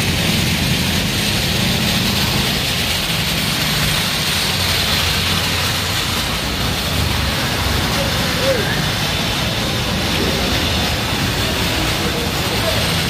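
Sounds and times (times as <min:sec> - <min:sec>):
constant hiss: 0:00.0 - 0:13.0
motorcycle engines running: 0:00.0 - 0:13.0.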